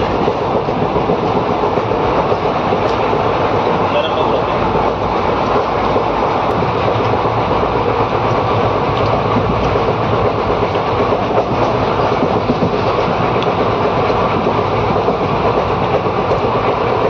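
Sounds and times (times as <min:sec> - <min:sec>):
train carriage rumble and rattle: 0:00.0 - 0:17.0.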